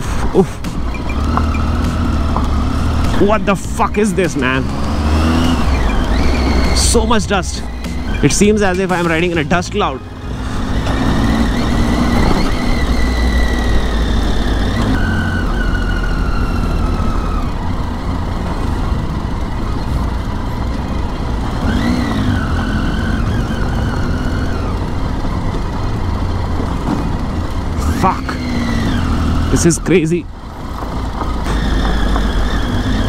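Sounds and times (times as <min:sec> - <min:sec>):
motorcycle engine running: 0:00.0 - 0:33.0
road noise on gravel: 0:00.0 - 0:33.0.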